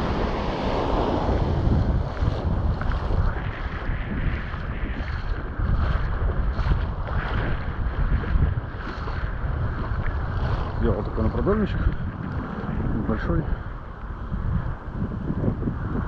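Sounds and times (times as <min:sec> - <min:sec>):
waves on shore: 0:00.0 - 0:16.0
wind buffeting microphone: 0:00.0 - 0:16.0.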